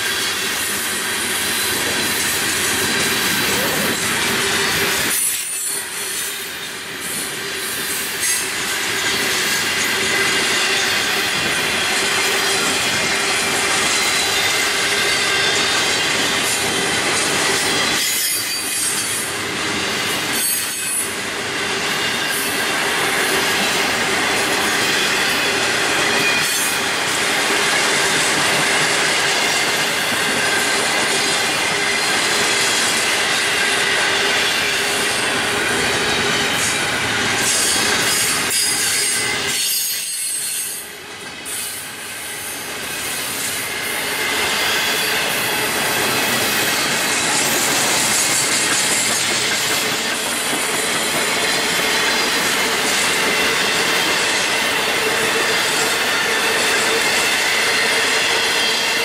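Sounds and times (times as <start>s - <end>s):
train wheels clacking over rail joints: 0.0s - 59.0s
train wheels squealing: 0.0s - 59.0s.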